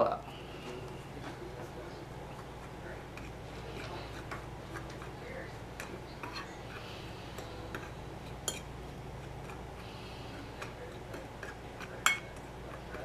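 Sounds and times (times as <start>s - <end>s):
fork scraping dry breading mix: 0.4s - 13.0s.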